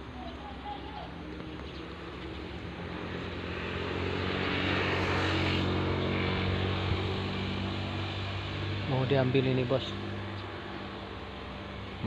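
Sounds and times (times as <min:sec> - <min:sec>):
motor vehicle engine passing: 0:00.0 - 0:12.0.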